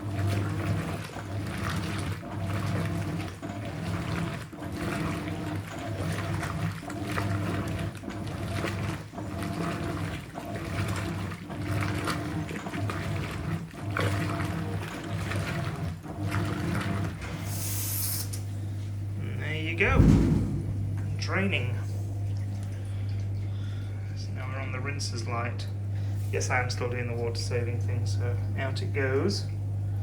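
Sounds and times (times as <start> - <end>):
churning water: 0.0 - 17.5, 18.5 - 30.0
motor hum: 0.0 - 30.0
washing machine agitator strokes: 0.0 - 30.0.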